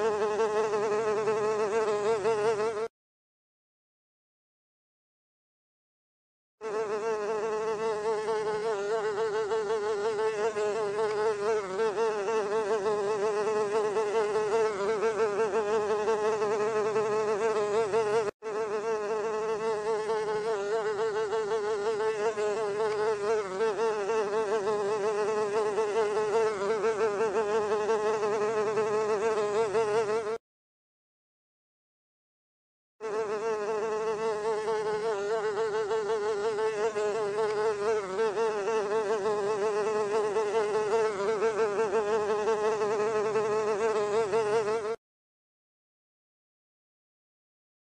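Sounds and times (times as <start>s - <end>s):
housefly buzzing: 0.0s - 2.9s, 6.6s - 30.4s, 33.0s - 45.0s.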